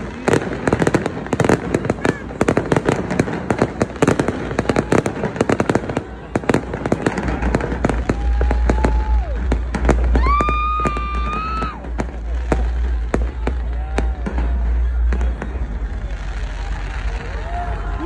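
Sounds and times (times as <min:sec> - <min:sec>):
fireworks popping and crackling: 0:00.0 - 0:18.0.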